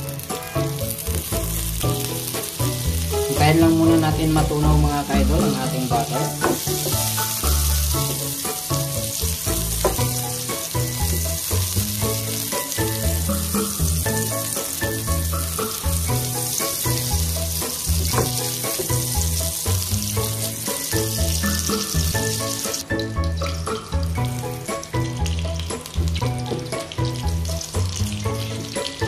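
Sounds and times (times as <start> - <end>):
background music with bass line: 0.0 - 29.0
butter sizzling in a hot pan: 0.0 - 29.0.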